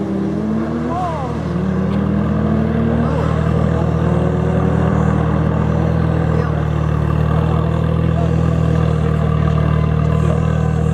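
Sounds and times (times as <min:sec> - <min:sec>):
engines idling deep drone: 0:00.0 - 0:10.9.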